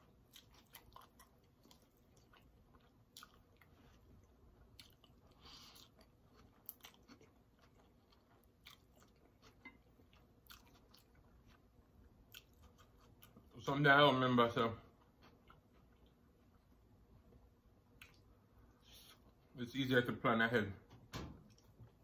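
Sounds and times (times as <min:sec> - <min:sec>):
person chewing food: 0:00.0 - 0:13.6, 0:14.8 - 0:19.5, 0:21.4 - 0:22.0.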